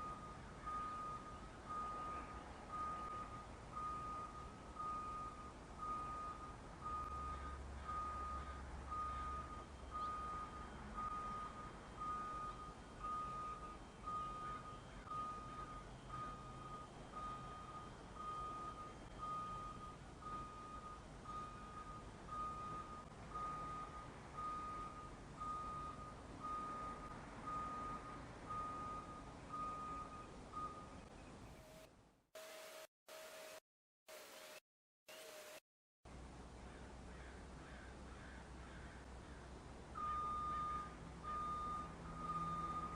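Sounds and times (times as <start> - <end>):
distant backup alarm beeping: 0.0 - 31.9, 39.9 - 42.9.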